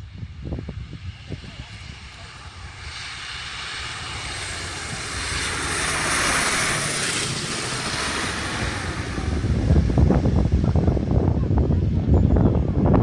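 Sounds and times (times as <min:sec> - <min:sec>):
piston aircraft engines droning: 0:00.0 - 0:13.0.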